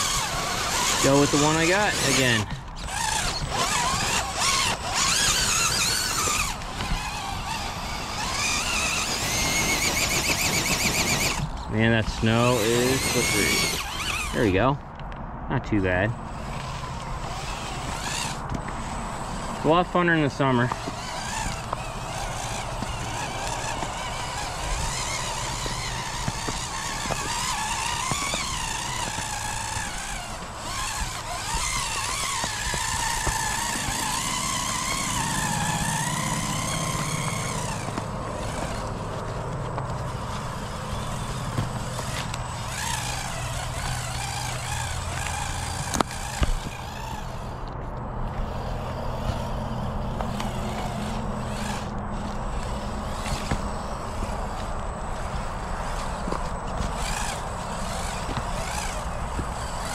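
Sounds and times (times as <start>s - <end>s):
toy car electric motor whining: 0.0s - 14.7s, 16.1s - 59.9s.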